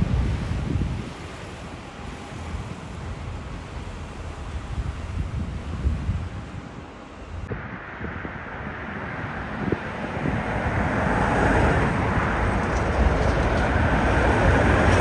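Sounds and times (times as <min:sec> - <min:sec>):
jet airliner engine noise: 0:00.0 - 0:15.0.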